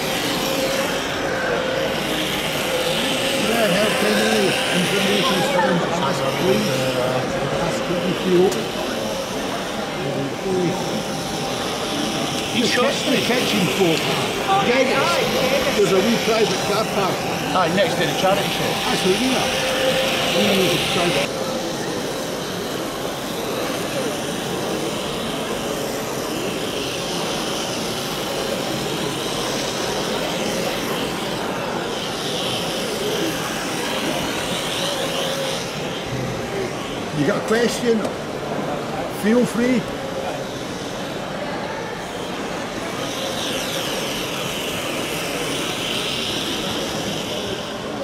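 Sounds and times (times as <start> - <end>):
model locomotive motor whining: 0.0 - 48.0.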